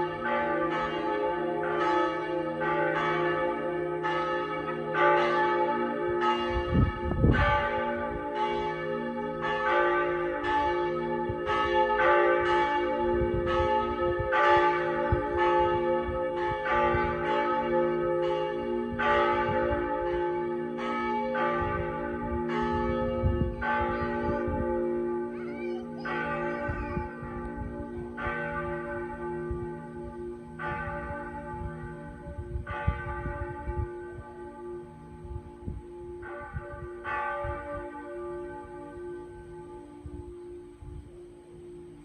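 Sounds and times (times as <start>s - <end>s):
church bells ringing: 0.0s - 42.0s.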